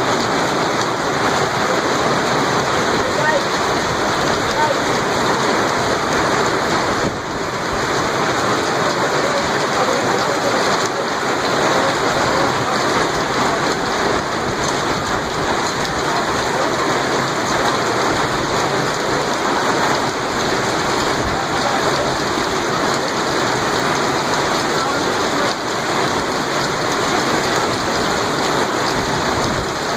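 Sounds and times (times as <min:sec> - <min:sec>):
heavy rain downpour: 0:00.0 - 0:29.9.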